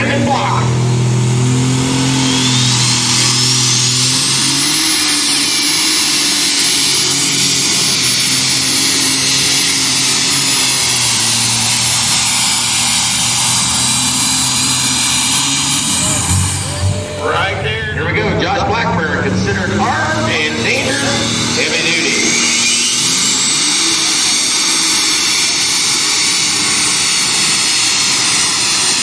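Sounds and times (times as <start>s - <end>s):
high whine: 0.0s - 12.8s, 14.7s - 26.0s
tractor engine running hard: 0.0s - 29.0s.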